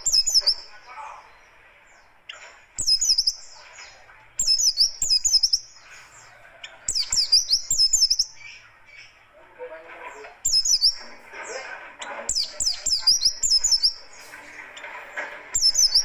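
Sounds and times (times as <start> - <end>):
bird chirping rapid high song: 0.0 - 9.2, 10.4 - 14.9, 15.5 - 16.0.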